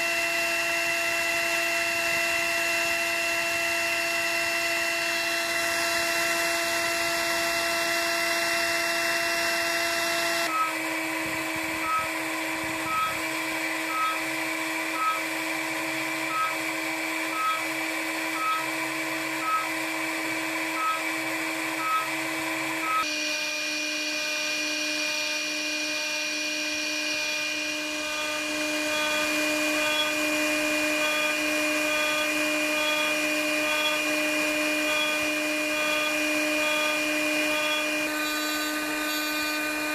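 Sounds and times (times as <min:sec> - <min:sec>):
router spindle milling wood: 0:00.0 - 0:39.9.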